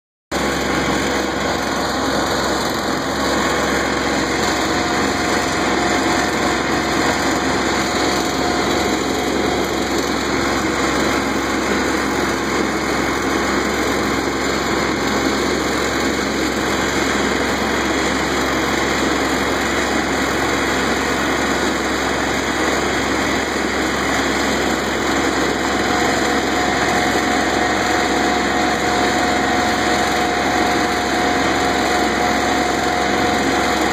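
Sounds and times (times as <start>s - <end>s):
diesel tractor running: 0.3s - 33.9s
snowblower throwing snow: 0.4s - 33.9s.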